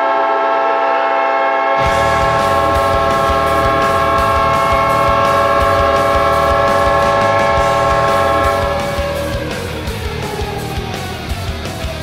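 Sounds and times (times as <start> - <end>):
goal horn blast: 0.0 - 9.8
rock song with drum beat: 1.8 - 12.0.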